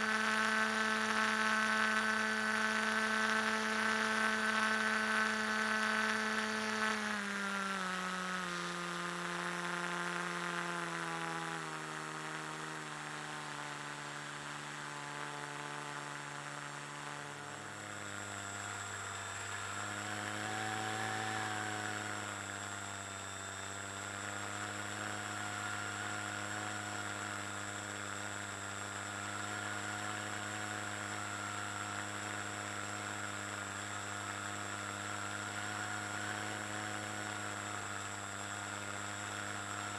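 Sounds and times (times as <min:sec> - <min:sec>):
model glider motor humming: 0:00.0 - 0:39.9.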